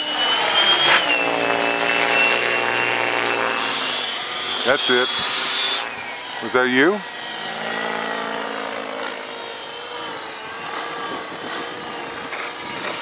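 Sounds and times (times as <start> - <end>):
model helicopter motor whining: 0.0 - 13.0.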